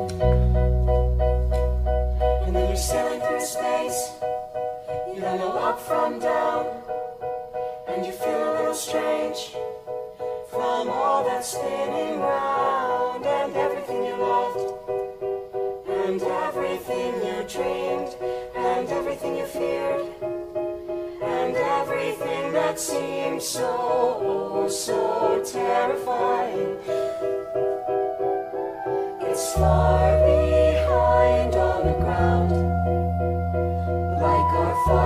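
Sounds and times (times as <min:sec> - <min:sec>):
choir singing in harmony: 0:02.2 - 0:35.0.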